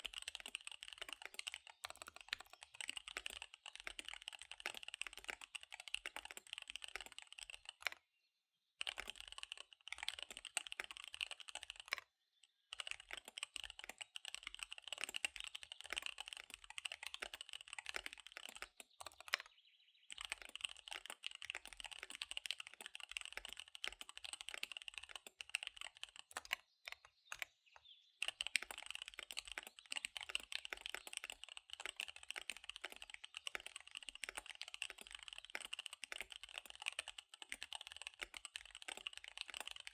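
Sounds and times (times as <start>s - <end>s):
fast typing on mechanical keyboard: 0.0s - 8.0s, 8.8s - 19.5s, 20.1s - 27.6s, 28.2s - 39.9s.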